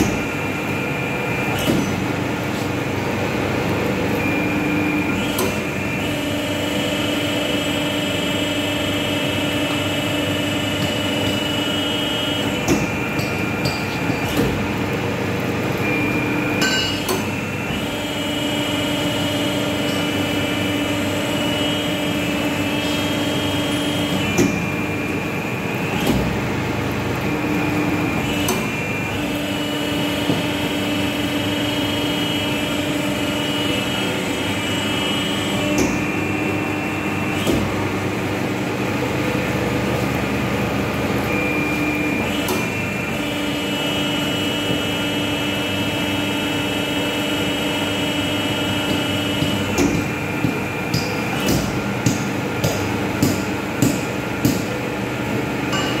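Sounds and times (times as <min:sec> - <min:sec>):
machine motor hum and whine: 0:00.0 - 0:56.0.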